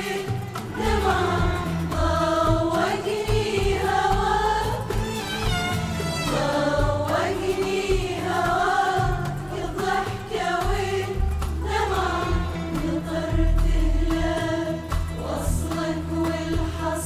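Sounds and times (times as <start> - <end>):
bowed strings: 0.0 - 16.8
frame drum: 0.0 - 17.0
oud: 0.0 - 17.0
qanun: 0.0 - 17.0
women's choir singing: 0.0 - 17.0.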